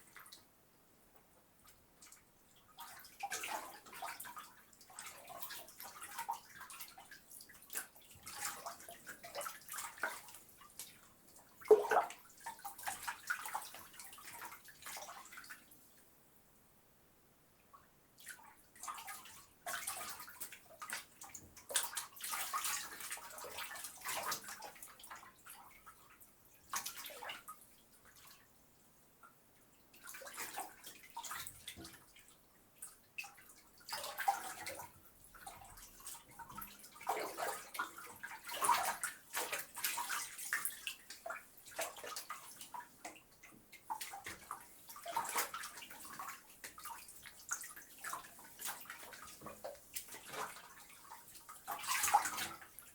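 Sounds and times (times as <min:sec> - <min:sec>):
bathwater sloshing and splashing: 0:02.0 - 0:15.7, 0:18.2 - 0:28.4, 0:29.9 - 0:52.9.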